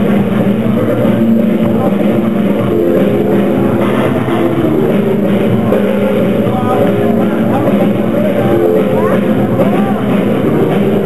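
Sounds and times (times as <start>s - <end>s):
loud music with held notes: 0.0s - 11.0s.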